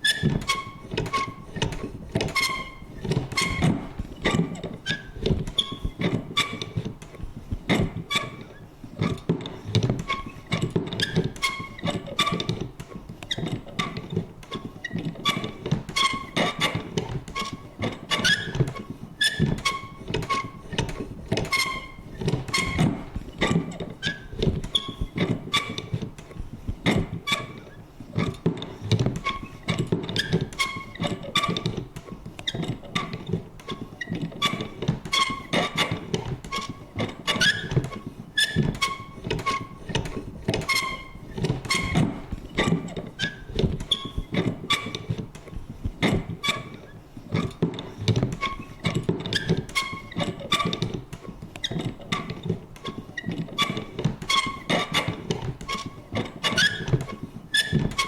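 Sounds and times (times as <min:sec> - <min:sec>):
squeaky mechanism creaks: 0:00.0 - 0:58.0
paper punch clicks and thunks: 0:09.0 - 0:58.0.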